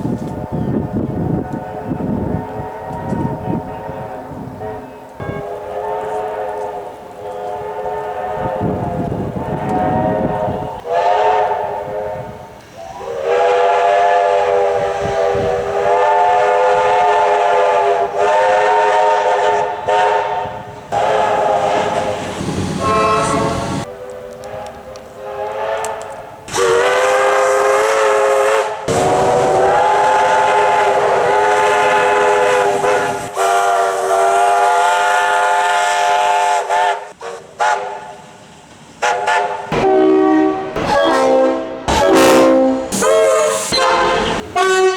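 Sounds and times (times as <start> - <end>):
train air horn blasts: 1.1 - 38.2, 39.0 - 44.9.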